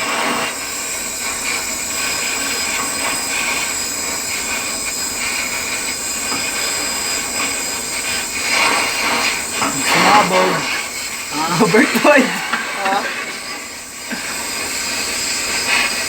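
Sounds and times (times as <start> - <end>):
steady hissing rush: 0.0 - 16.0.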